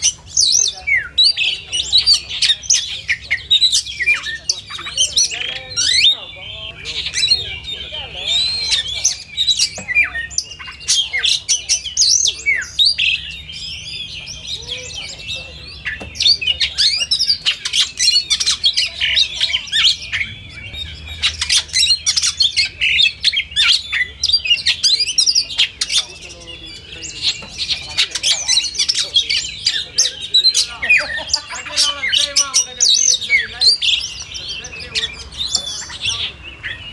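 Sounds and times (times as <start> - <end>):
songbirds chorus of whistles: 0.0 - 36.9.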